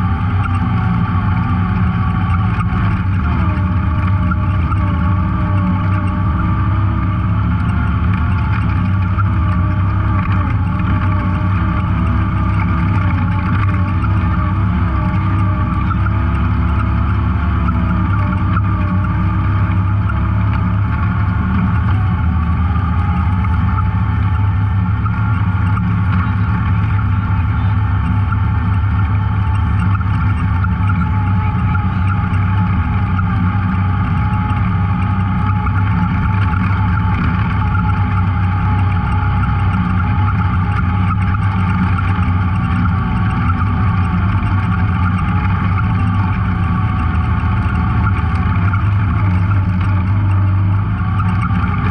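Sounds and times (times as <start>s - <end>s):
off-road vehicle engine running: 0.0s - 51.9s.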